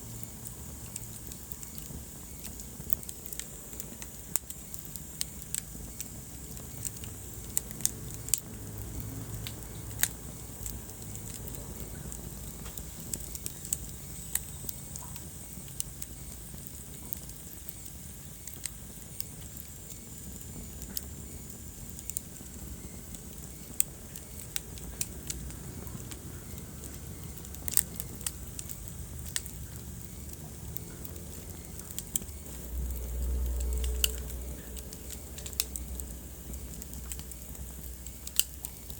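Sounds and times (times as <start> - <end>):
low rumble of fire: 0.0 - 38.9
wood fire crackling: 0.0 - 38.9.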